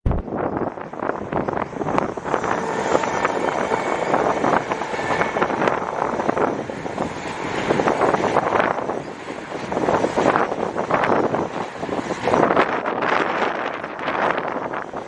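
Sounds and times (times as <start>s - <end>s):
wind buffeting microphone: 0.0s - 15.0s
diesel locomotive running: 0.2s - 15.0s.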